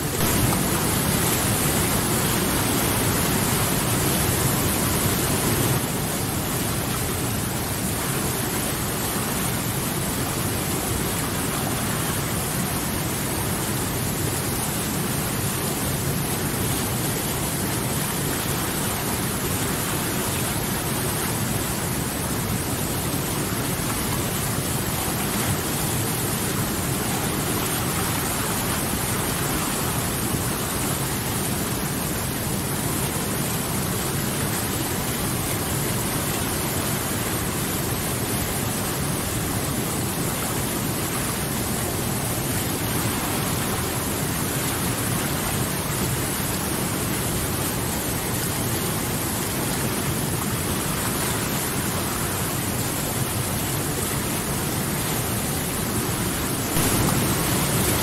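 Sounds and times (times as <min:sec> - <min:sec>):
rapids rushing over boulders: 0:00.0 - 0:58.0.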